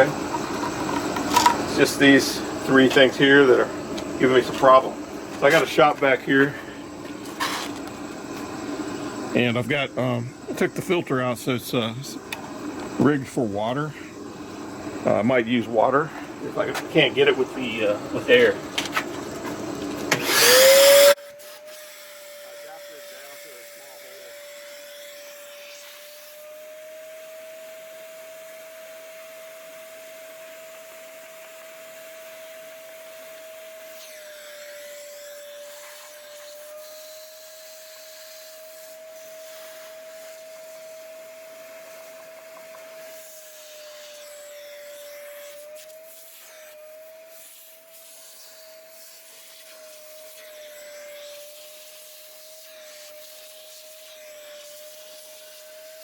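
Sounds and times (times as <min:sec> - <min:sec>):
shop vac motor whine: 0:00.0 - 0:56.0.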